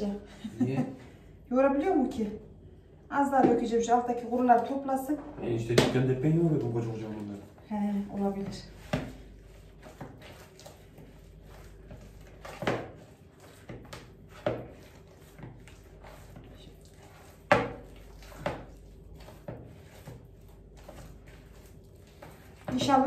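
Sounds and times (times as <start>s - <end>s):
dough being kneaded by hand: 3.4s - 23.0s.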